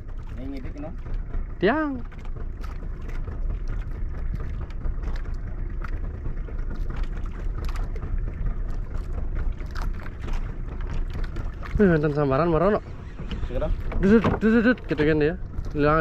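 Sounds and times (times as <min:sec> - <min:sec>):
boat engine rumble: 0:00.0 - 0:16.0
water noise: 0:00.0 - 0:16.0.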